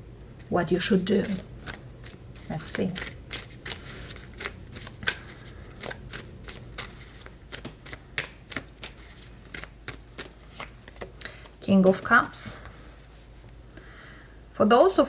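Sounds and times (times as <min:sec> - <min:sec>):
cards being shuffled by hand: 0:00.4 - 0:13.4.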